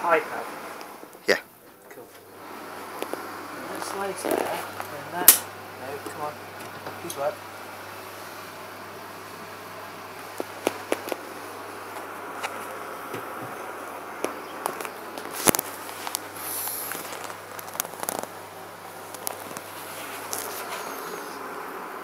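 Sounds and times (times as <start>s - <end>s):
machine buzzing hum: 0.0s - 22.0s.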